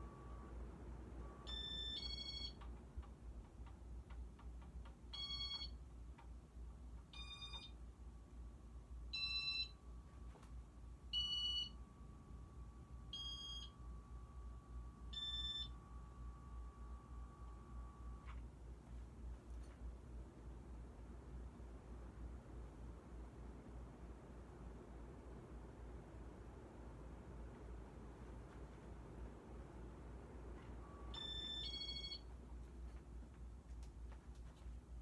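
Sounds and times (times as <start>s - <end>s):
ceiling fan motor hum: 0.0s - 35.0s.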